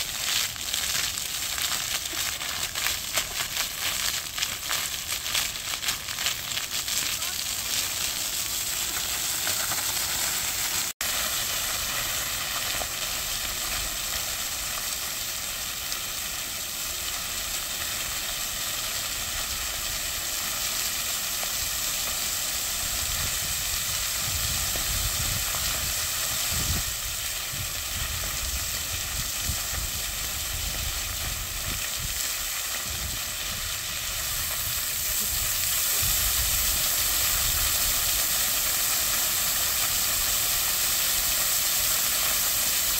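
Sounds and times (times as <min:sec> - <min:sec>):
fountain water splashing on stone: 0:00.0 - 0:42.9.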